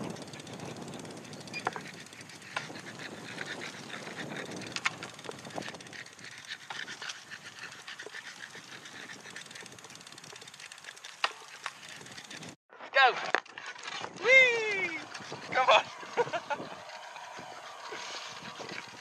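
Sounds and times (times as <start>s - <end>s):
sharp clicks and ticks: 0.0s - 12.6s, 13.2s - 19.0s
bicycle tyres on gritty path: 0.0s - 19.0s
dog panting: 0.1s - 12.6s, 14.7s - 19.0s.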